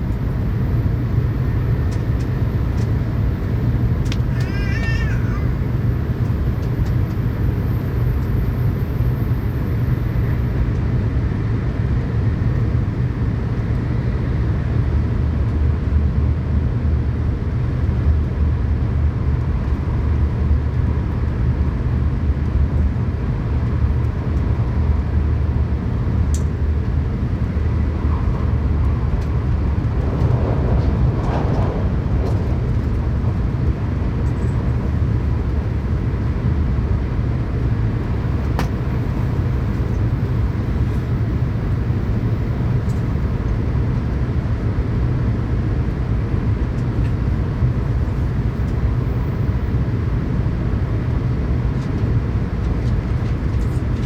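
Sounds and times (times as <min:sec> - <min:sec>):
train interior rumble: 0:00.0 - 0:54.0.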